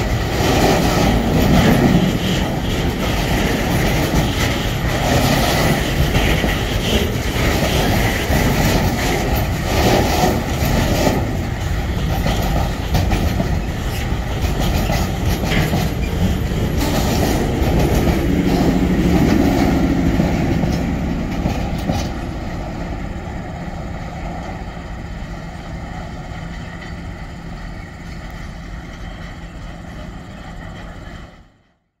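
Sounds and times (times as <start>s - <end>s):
diesel locomotive engine: 0.0s - 32.0s.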